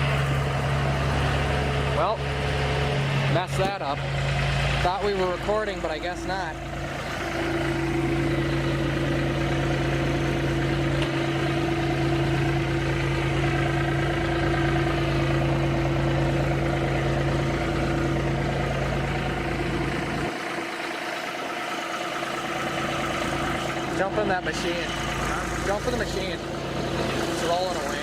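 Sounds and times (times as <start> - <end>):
engine idling low hum: 0.0 - 28.0.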